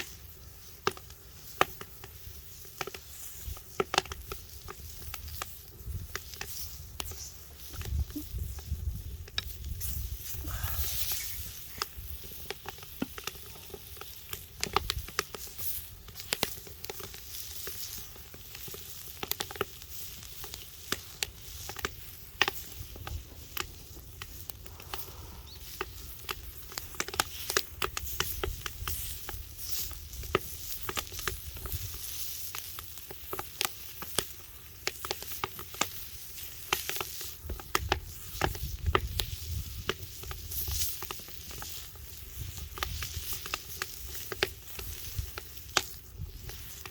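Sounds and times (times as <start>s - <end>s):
sharp snaps and pops: 0.0s - 46.9s
sizzling hiss: 0.0s - 46.9s
wood fire crackling: 0.0s - 46.9s.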